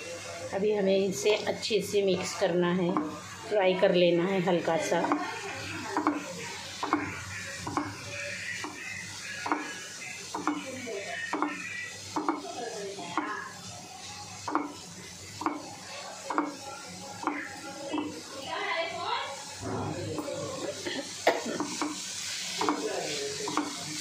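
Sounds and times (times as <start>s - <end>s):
frying sizzle: 0.0s - 24.0s.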